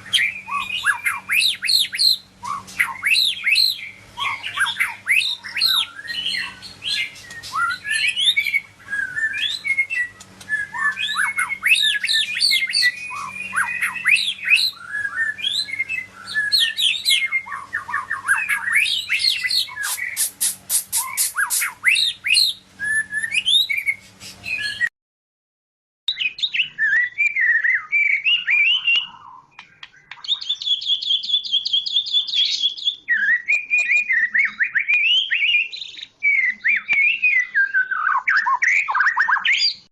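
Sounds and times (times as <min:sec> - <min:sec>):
shama bird singing: 0:00.0 - 0:24.9, 0:26.1 - 0:39.9.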